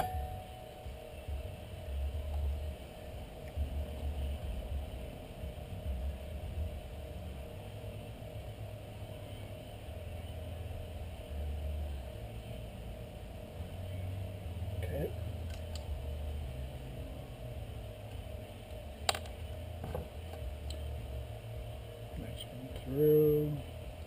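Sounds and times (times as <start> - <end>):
faint steady whine: 0.0 - 24.0
low steady hum: 0.0 - 24.0.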